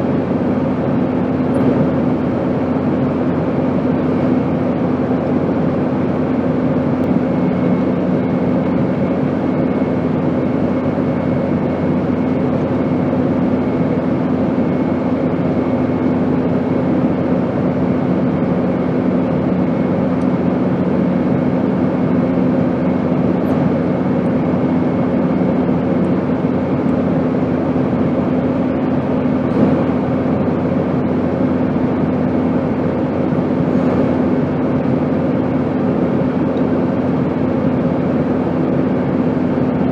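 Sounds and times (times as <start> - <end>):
airplane drone in flight: 0.0 - 39.9.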